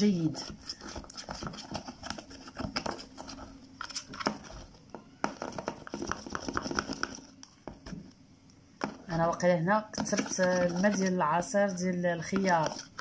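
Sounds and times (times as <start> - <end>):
spoon stirring paste in plastic cup: 0.0 - 8.2, 8.8 - 13.0.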